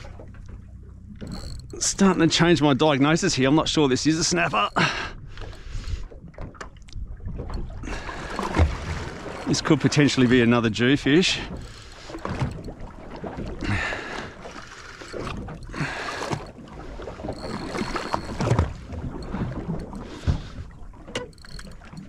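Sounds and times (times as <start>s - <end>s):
water slapping boat hull: 0.0s - 22.0s.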